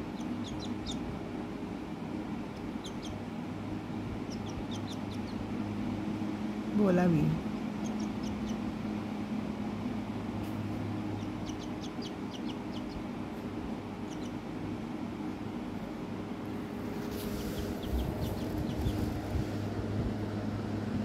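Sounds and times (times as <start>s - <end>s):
baby bird peeping: 0.0s - 15.8s, 16.7s - 19.7s
steady low hum: 0.0s - 21.0s.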